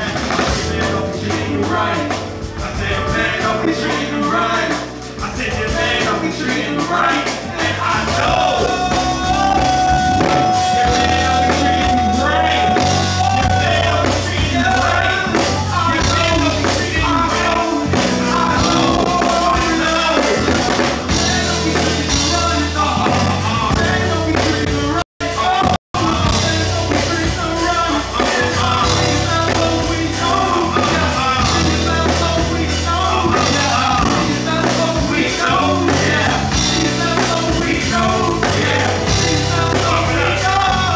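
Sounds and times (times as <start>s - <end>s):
live band music: 0.0s - 40.9s
person singing: 0.0s - 40.9s.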